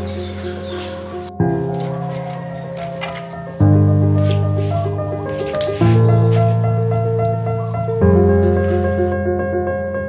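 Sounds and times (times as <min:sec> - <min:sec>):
classical piano chords: 0:00.0 - 0:10.0.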